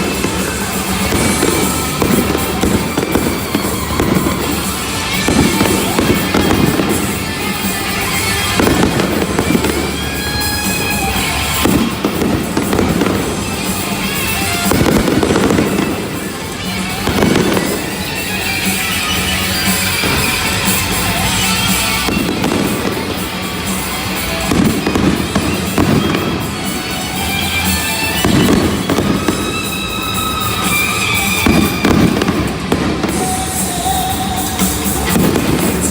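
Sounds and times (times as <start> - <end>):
fireworks booming and crackling: 0.0 - 35.9
music playing: 0.0 - 35.9.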